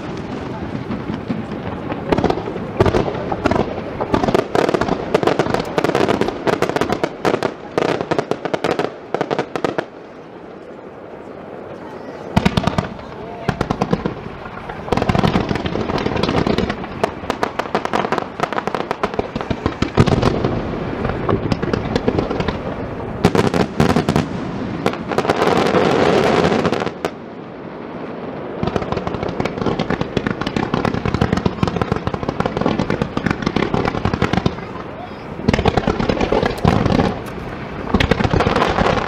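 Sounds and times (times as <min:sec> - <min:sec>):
firework crackling: 0:00.0 - 0:39.0.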